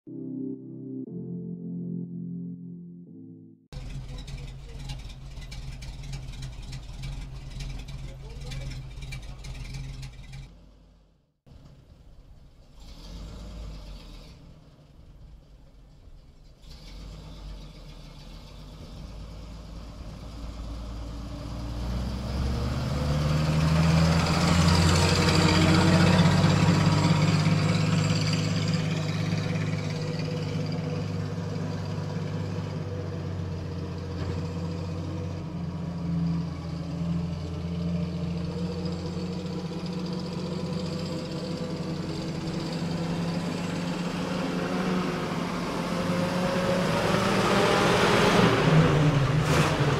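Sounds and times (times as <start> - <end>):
vehicle engine running: 3.7 - 12.9, 14.7 - 47.6.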